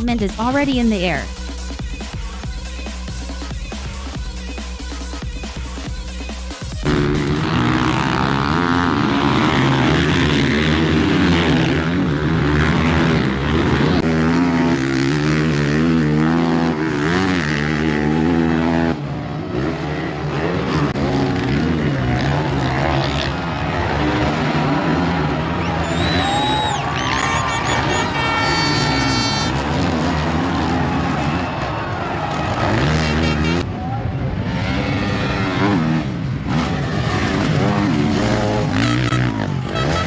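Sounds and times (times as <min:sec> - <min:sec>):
motocross bike engines racing: 0:00.0 - 0:40.0.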